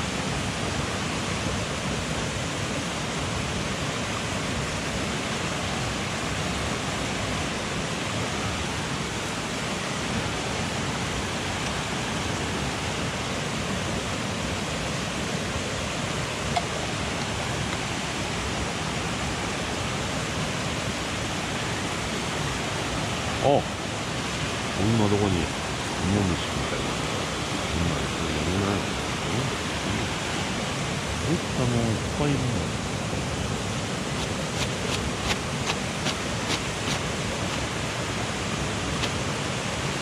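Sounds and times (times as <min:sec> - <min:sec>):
stream rushing: 0:00.0 - 0:40.0.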